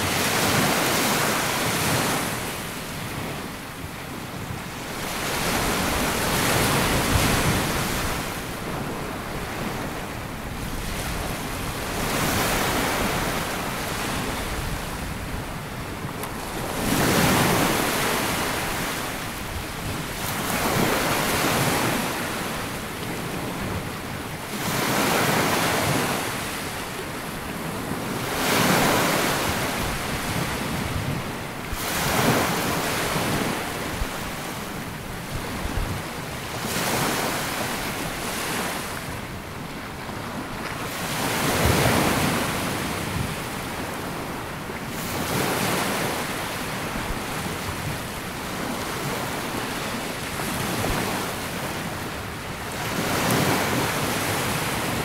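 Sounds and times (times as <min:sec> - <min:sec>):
waves washing up a beach: 0:00.0 - 0:55.0.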